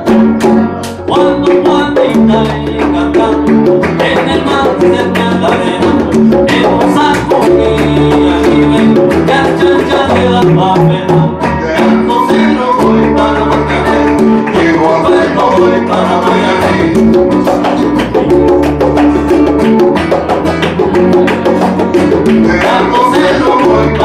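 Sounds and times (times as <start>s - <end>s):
congas struck by hand: 0.0s - 24.0s
latin band playing: 0.0s - 24.0s
walking bass line: 0.0s - 24.0s.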